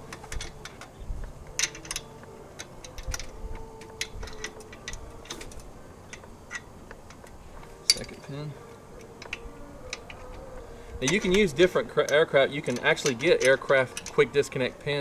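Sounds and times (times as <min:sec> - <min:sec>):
metal tube parts clicking together: 0:00.0 - 0:14.8.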